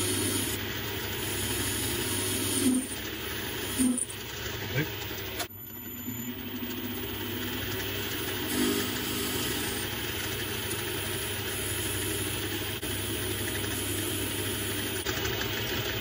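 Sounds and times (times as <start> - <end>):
metal lathe motor humming: 0.0 - 16.0.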